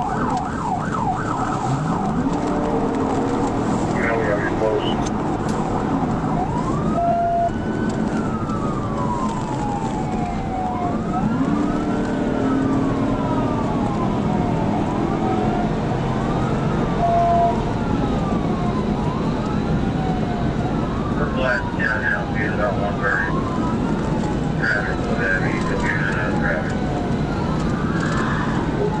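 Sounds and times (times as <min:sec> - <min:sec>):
police siren wailing: 0:00.0 - 0:29.0
road and engine noise: 0:00.0 - 0:29.0.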